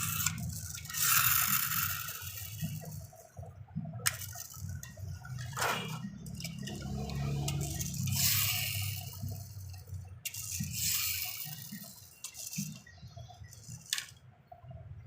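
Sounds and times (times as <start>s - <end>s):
toy vehicles clicking and knocking: 0.0s - 14.3s
low hum: 0.0s - 15.0s.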